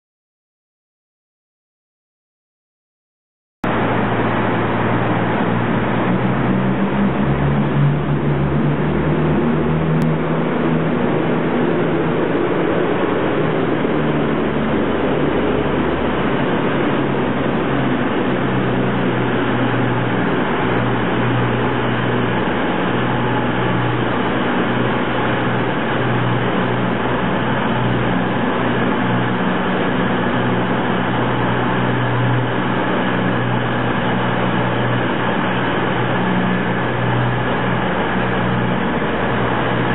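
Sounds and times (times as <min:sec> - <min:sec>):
diesel train engine drone: 0:03.6 - 0:39.9.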